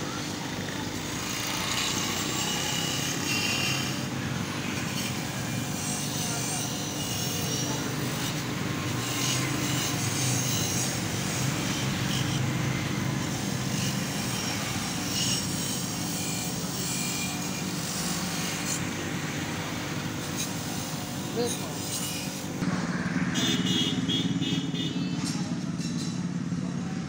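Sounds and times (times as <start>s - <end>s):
grinding wheel scraping metal: 0.0s - 22.8s, 24.4s - 27.0s
bench grinder motor running: 0.0s - 24.9s.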